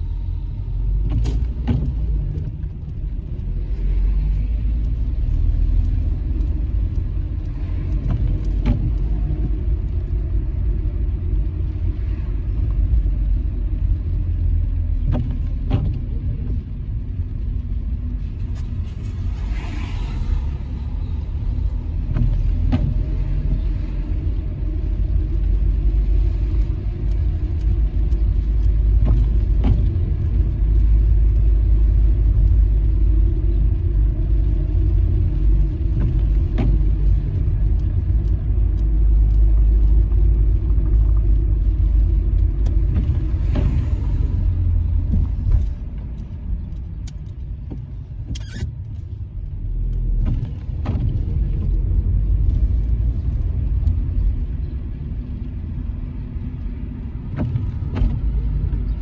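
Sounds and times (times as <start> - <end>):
car engine and tyres rumble: 0.0 - 59.0.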